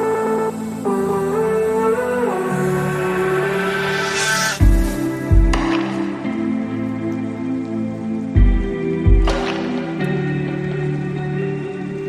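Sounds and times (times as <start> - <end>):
electronic music held chord: 0.0 - 12.0.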